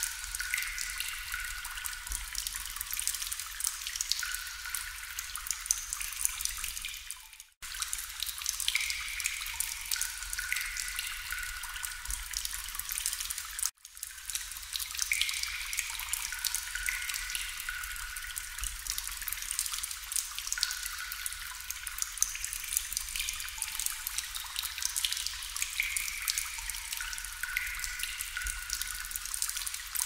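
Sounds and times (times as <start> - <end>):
water dripping: 0.0 - 30.0.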